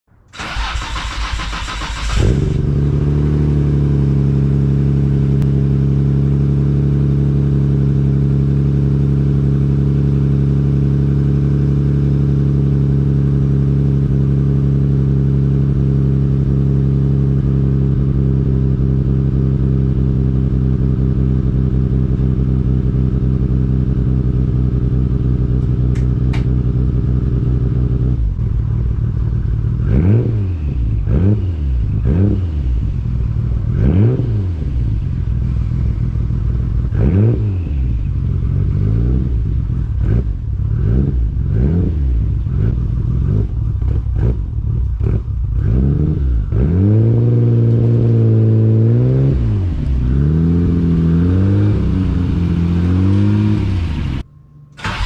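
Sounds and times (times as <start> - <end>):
car engine starting and idling: 0.1 - 55.0.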